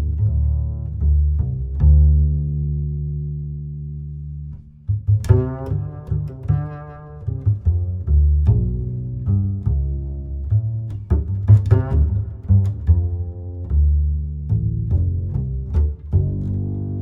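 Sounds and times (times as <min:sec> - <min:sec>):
low string instruments music: 0:00.0 - 0:17.0.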